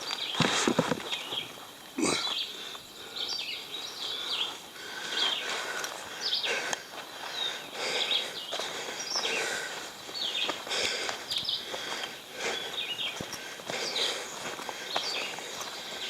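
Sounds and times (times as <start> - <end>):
footsteps crunching on trail: 0.0 - 16.0
small birds chirping: 0.0 - 16.0.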